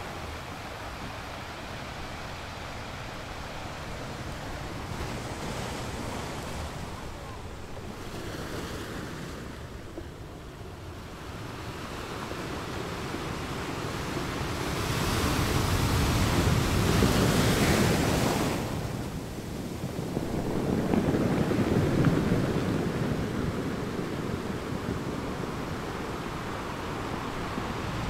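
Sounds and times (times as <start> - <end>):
sea waves washing in: 0.0 - 28.0.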